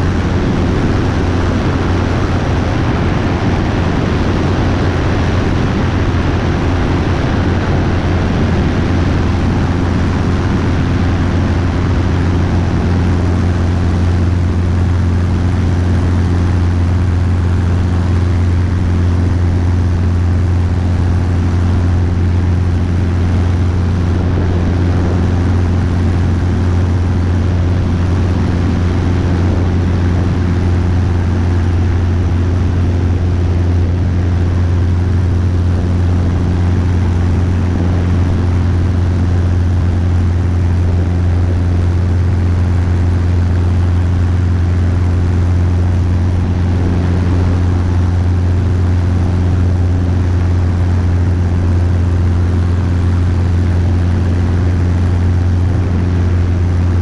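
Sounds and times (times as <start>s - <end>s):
helicopter rotor and engine drone: 0.0s - 57.0s
rush of air: 0.0s - 57.0s.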